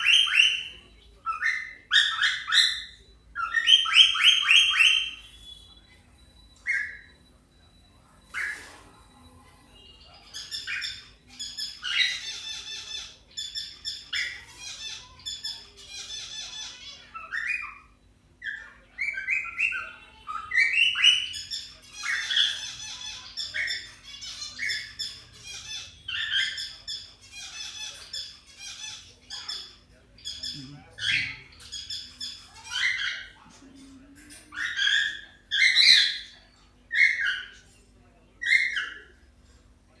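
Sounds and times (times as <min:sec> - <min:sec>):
cockatiels squawking and chirping: 0:00.0 - 0:40.0.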